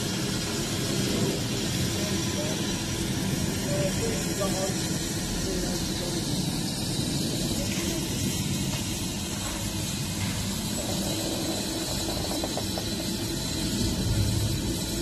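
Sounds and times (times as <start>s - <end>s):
steam locomotives rumbling and hissing: 0.0s - 15.0s.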